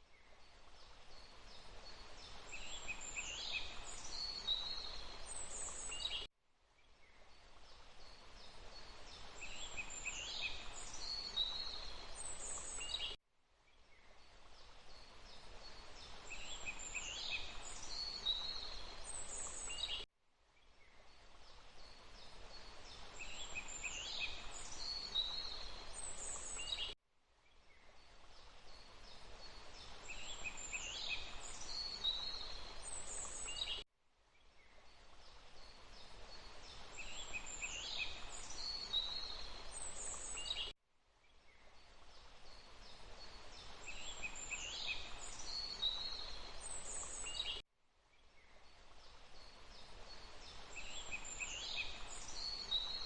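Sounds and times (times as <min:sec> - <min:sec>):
background hiss: 0:00.0 - 0:20.0, 0:20.6 - 0:27.0, 0:27.7 - 0:33.8, 0:34.5 - 0:53.0.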